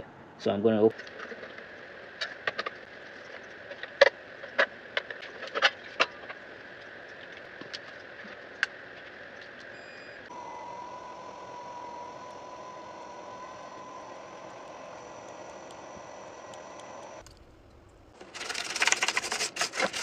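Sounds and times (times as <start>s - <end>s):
steady hum with faint tone: 0.0s - 19.9s.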